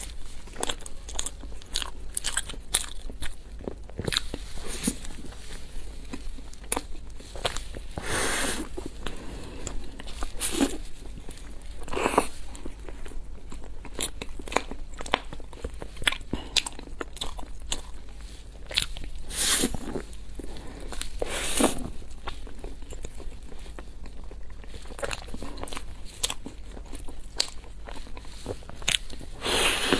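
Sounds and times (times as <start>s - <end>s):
person chewing: 0.0s - 29.9s.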